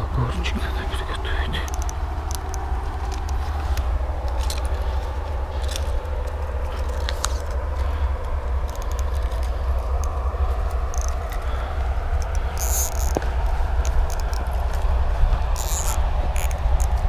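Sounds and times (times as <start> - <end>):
low rumble on microphone: 0.0 - 17.0
fishing gear clicking and rattling: 1.4 - 17.0.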